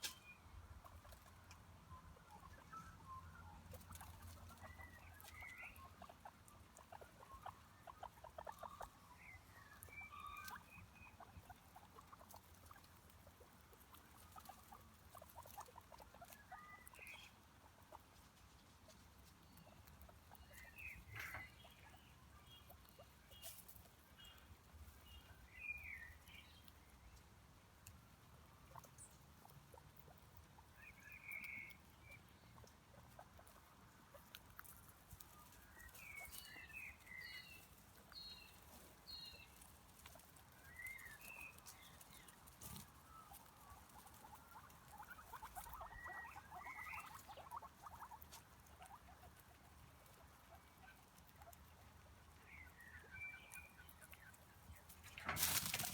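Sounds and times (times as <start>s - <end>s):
rabbits chewing grass: 0.0s - 55.9s.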